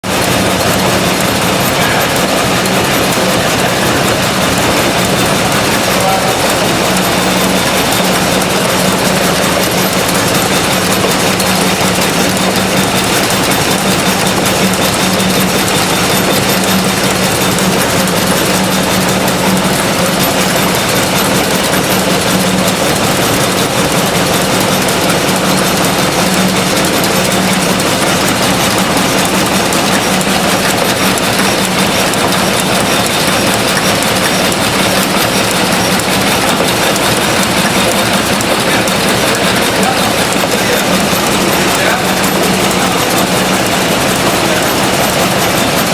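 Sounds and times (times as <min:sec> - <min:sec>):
hit-and-miss gas engine running: 0:00.0 - 0:45.9.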